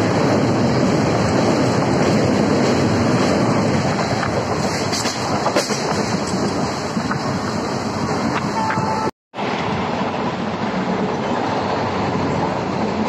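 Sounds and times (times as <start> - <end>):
train running noise: 0.0 - 13.0
wind buffeting microphone: 0.0 - 13.0.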